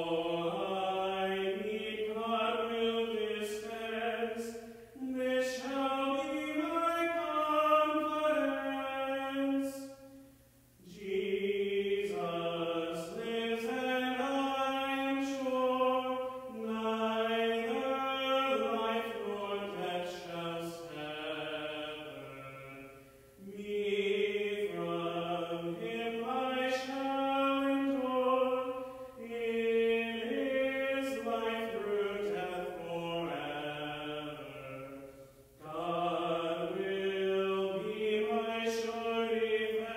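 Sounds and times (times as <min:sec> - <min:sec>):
man singing unaccompanied: 0:00.0 - 0:10.0, 0:10.8 - 0:35.0, 0:35.6 - 0:39.9.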